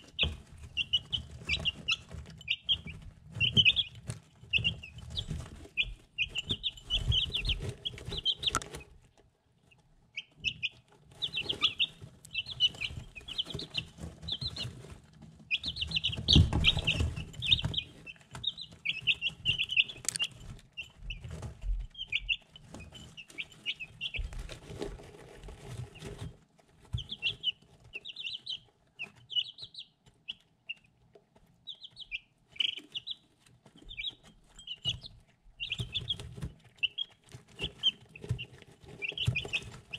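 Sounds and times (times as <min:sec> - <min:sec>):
chicks pecking ceramic dish: 0:00.0 - 0:39.9
chicks peeping: 0:00.0 - 0:39.9.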